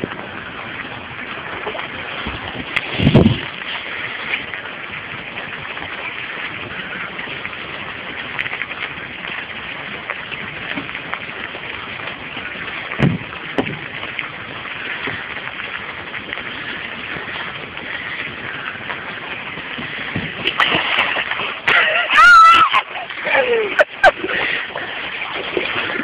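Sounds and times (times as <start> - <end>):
rain falling on water: 0.0 - 26.0.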